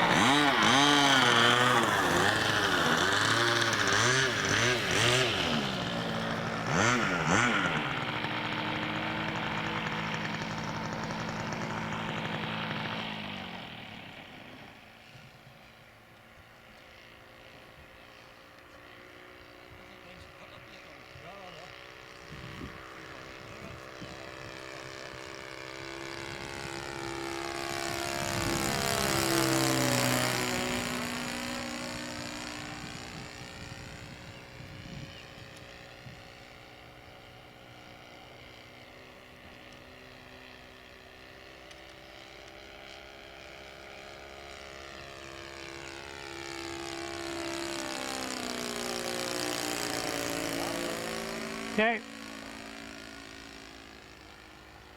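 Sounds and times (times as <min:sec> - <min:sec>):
model plane engine passing: 0:00.0 - 0:54.9.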